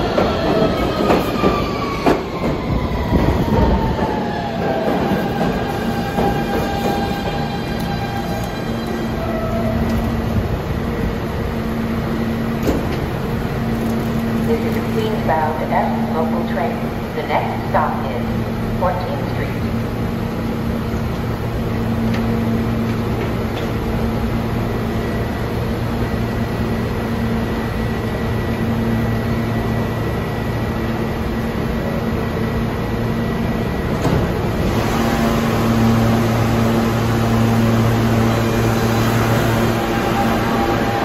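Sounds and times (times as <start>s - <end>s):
rumble of rail movement: 0.0s - 41.0s
subway train equipment humming: 0.0s - 41.0s.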